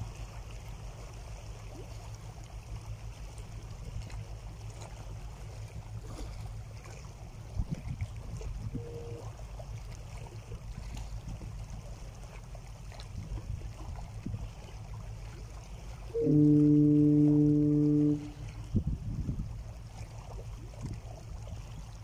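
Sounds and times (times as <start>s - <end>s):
steady low rumble: 0.0s - 22.0s
waves lapping against rocks: 0.0s - 22.0s.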